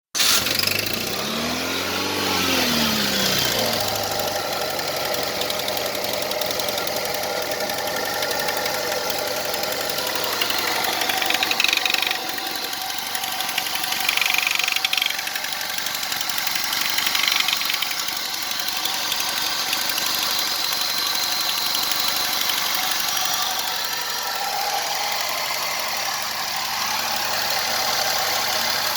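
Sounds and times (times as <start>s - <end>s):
car engine idling: 0.2s - 28.9s.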